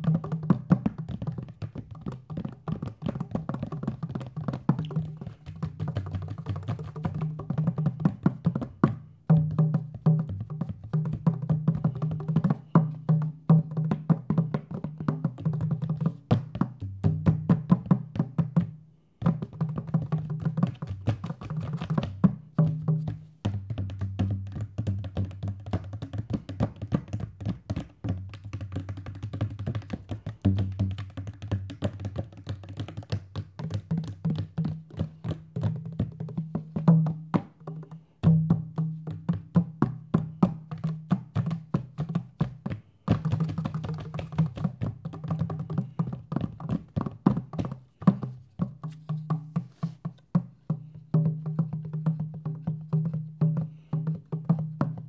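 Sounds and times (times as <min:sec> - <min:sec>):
hand drums playing fast: 0:00.0 - 0:55.0.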